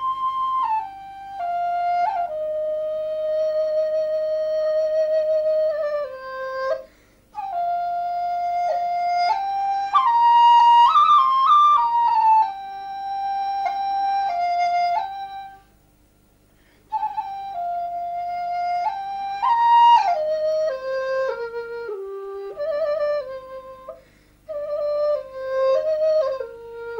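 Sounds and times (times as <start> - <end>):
solo flute melody: 0.0 - 15.8, 16.9 - 26.9.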